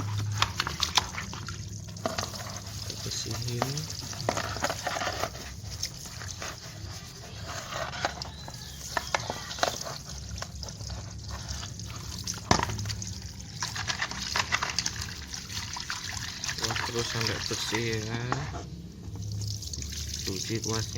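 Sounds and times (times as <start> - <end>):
brush scrubbing wet metal: 0.0 - 20.9
water dripping and trickling: 0.0 - 20.9.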